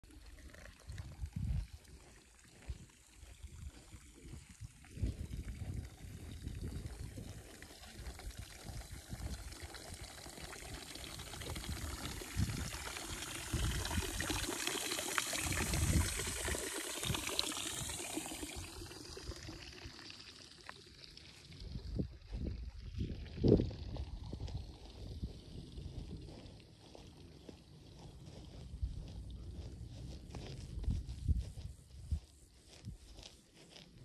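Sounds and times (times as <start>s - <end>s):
water pouring into stone trough: 0.0s - 29.7s.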